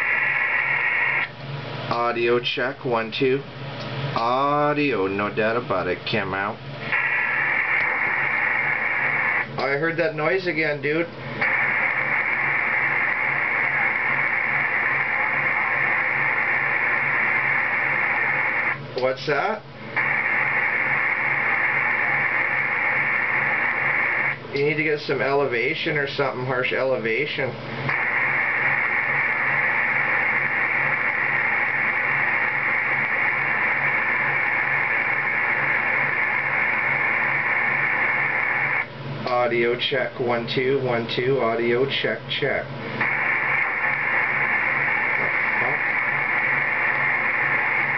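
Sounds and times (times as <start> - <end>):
faint pulsing low hum: 0.0 - 47.9
radio receiver hiss: 0.0 - 47.9.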